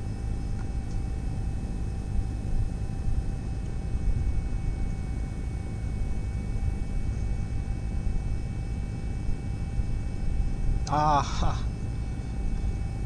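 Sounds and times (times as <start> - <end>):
faint steady hum tones: 0.0 - 13.0
low rumbling background noise: 0.0 - 13.0.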